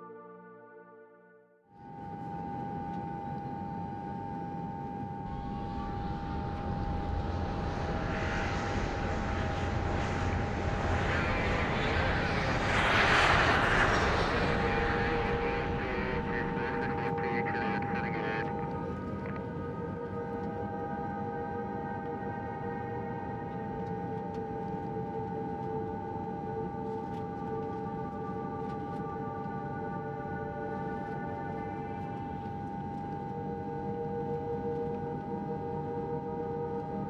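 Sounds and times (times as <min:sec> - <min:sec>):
jet engine high whine: 0:01.8 - 0:37.0
jet engine low rumble: 0:01.8 - 0:37.0.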